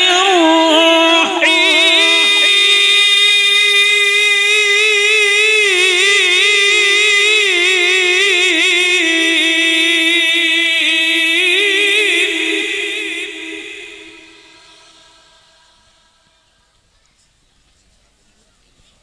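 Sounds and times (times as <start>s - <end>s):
man reciting into a microphone: 0.0s - 16.1s.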